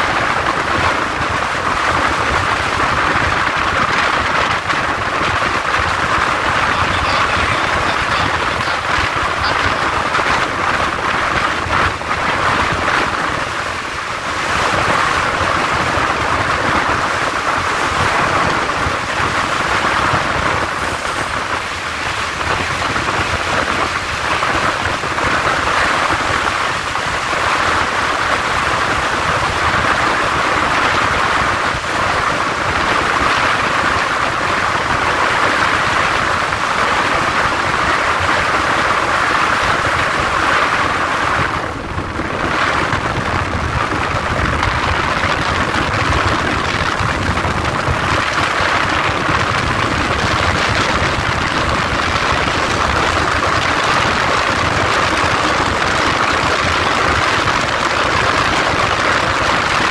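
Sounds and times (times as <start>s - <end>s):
train running noise: 0.0s - 59.9s
wind on microphone: 0.0s - 59.9s.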